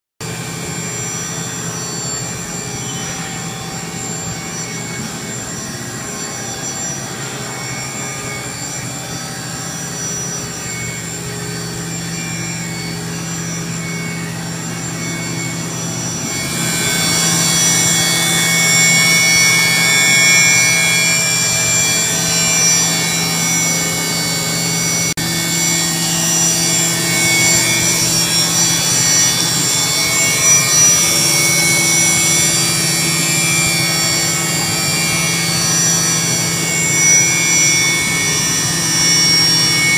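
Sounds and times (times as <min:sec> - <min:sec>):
machinery whining and humming: 0:00.2 - 0:39.9.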